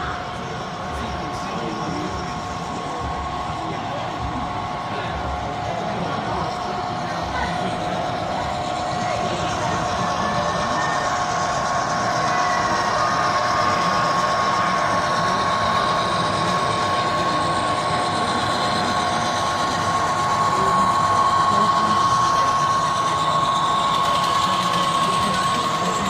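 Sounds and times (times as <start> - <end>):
model train running: 0.0 - 26.0
steady high whine: 0.0 - 26.0.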